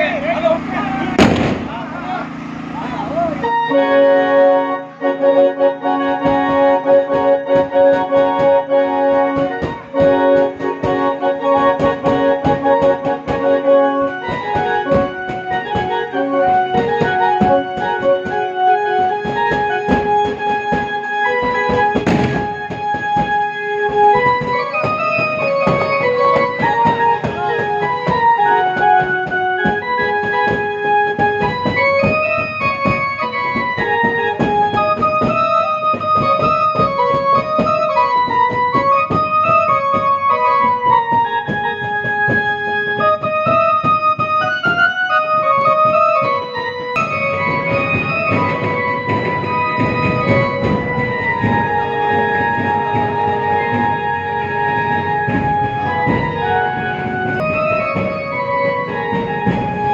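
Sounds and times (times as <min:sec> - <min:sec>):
percussion beat: 0:00.0 - 0:03.8, 0:05.5 - 0:59.9
electronic keyboard melody: 0:00.0 - 0:59.9.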